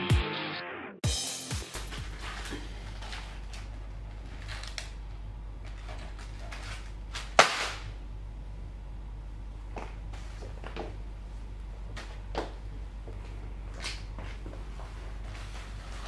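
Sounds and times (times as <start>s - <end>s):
low room hum: 1.8s - 16.0s.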